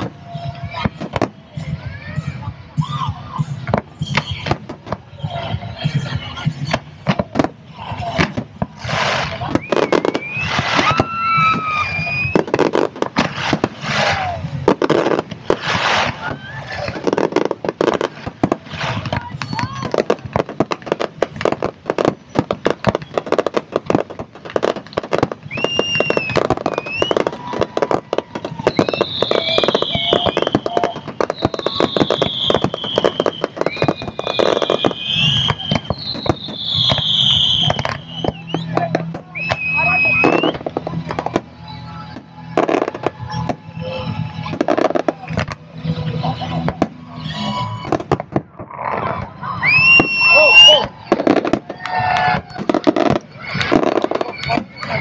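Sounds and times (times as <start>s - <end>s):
fireworks crackling: 0.0s - 55.0s
whistling fireworks: 0.0s - 55.0s.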